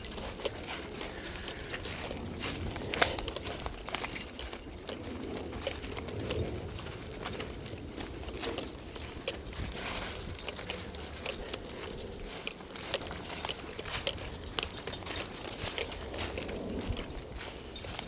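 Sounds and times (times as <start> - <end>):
footsteps clicking: 0.0 - 18.0
light metallic jingling: 0.0 - 18.0.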